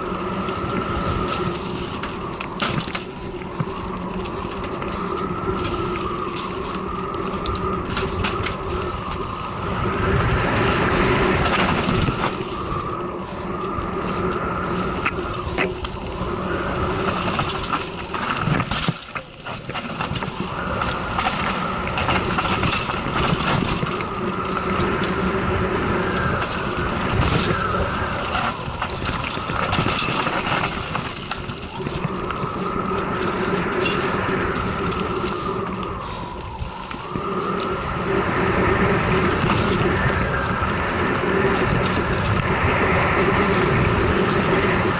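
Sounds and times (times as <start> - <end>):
bicycle parts rattling: 0.0 - 44.9.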